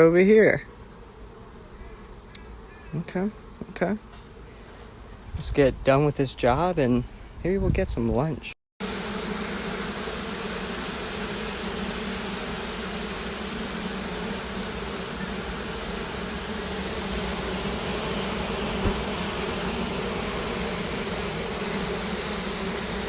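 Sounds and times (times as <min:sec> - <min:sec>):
bees buzzing: 0:00.0 - 0:05.3, 0:08.8 - 0:23.0.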